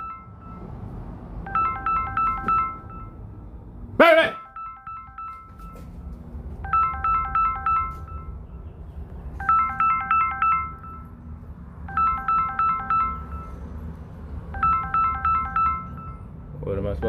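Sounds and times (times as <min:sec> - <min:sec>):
electronic ringtone melody: 0:00.0 - 0:03.5, 0:04.2 - 0:08.5, 0:09.3 - 0:13.9, 0:14.5 - 0:17.0.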